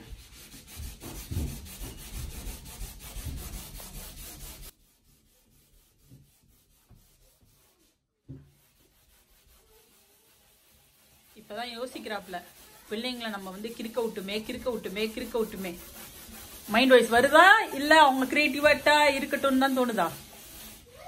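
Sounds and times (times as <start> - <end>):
scrubber rubbing on wall: 0.0 - 21.0.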